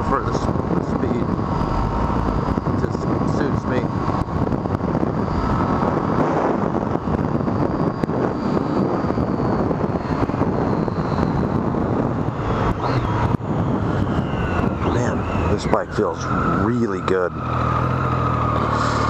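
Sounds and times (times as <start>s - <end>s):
motorcycle engine running: 0.0s - 19.0s
wind rush: 0.0s - 19.0s.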